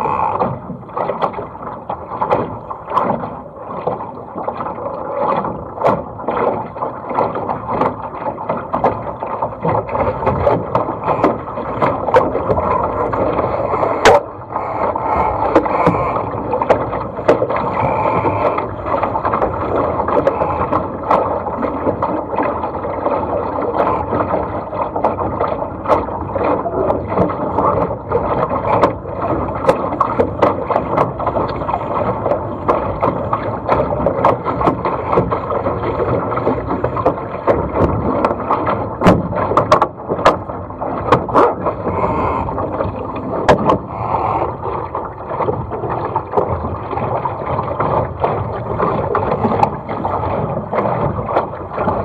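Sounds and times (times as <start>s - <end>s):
spray and waves slapping: 0.0s - 52.0s
water rushing along boat hull: 0.0s - 52.0s.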